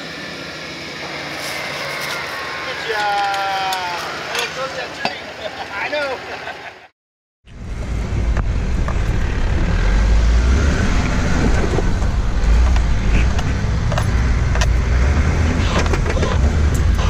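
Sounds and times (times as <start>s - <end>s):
off-road vehicle engine rumbling: 0.0s - 6.7s, 7.4s - 17.0s.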